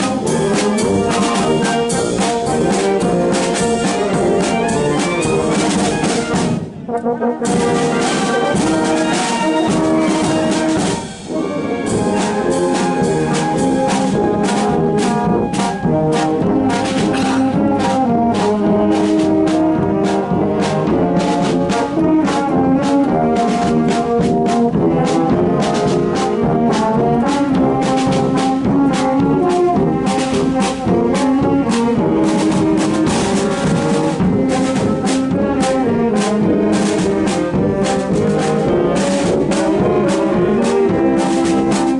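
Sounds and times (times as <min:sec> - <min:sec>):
brass playing tune: 0:00.0 - 0:41.9
steady drum beat: 0:00.0 - 0:41.9.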